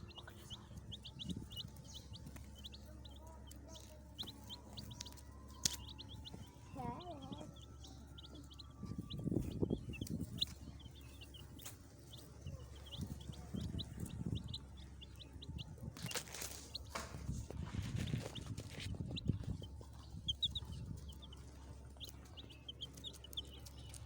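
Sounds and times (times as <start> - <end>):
baby chicks peeping: 0.0 - 24.0
lower louder chick sounds: 0.0 - 24.0.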